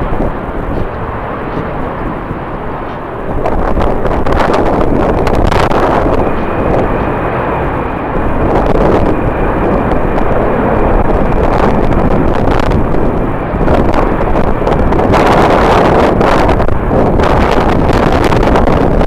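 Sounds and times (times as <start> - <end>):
jet engines whining: 0.0 - 19.0
wind buffeting microphone: 0.0 - 19.0.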